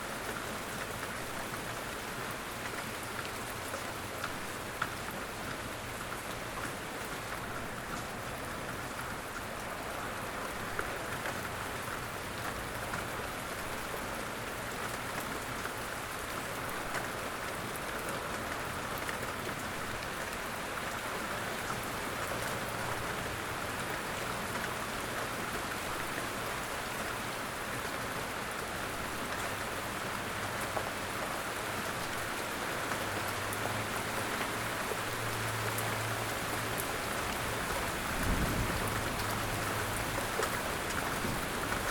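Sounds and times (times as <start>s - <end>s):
light rain in woodland: 0.0s - 41.9s.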